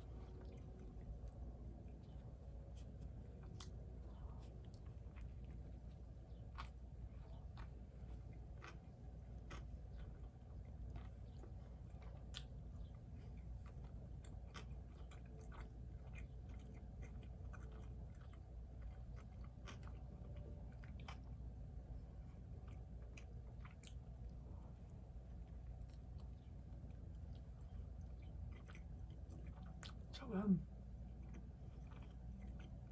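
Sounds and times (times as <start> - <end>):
person chewing food: 0.0 - 30.1, 30.8 - 32.9
low steady hum: 0.0 - 32.9.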